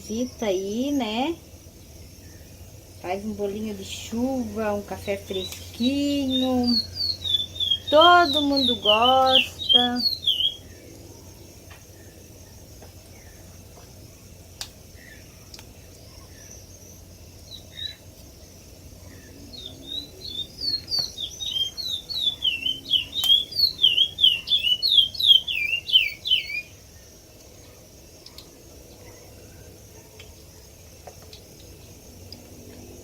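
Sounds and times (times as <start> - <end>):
songbird chirping: 0.0 - 33.0.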